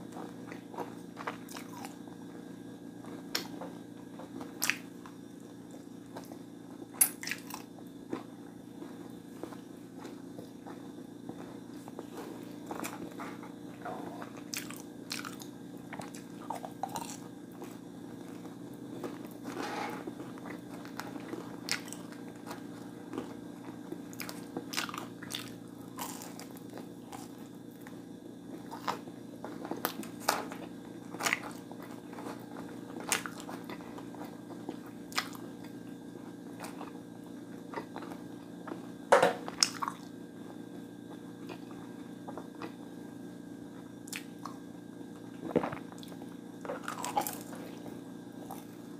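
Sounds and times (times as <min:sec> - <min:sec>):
crunchy food chewing: 0:00.0 - 0:48.9
steady low hum: 0:00.0 - 0:48.9.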